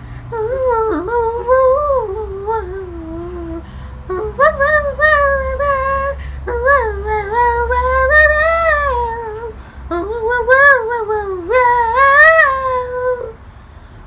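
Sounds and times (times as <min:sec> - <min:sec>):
high-pitched voice singing wordless tune: 0:00.3 - 0:13.4.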